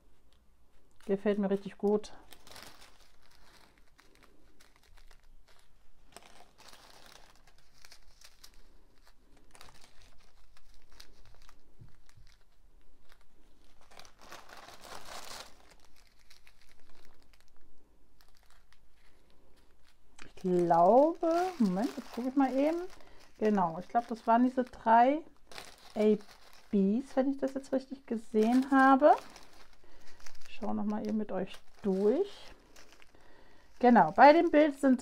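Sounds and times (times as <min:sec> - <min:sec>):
plastic bags crinkling and rustling: 0:00.0 - 0:35.0.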